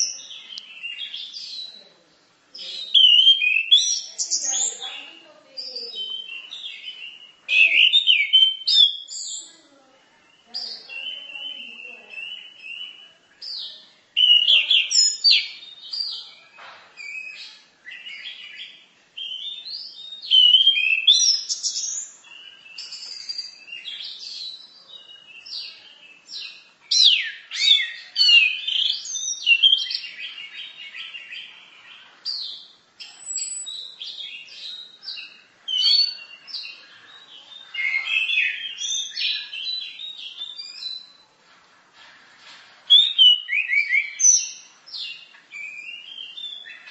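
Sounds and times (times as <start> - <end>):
bird singing: 0.0 - 41.3, 42.9 - 46.9.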